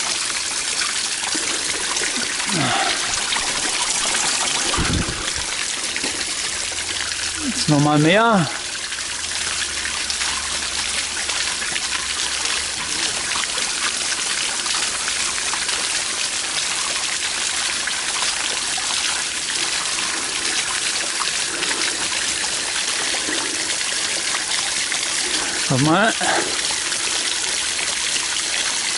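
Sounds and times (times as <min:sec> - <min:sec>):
water spraying and splashing: 0:00.0 - 0:28.9.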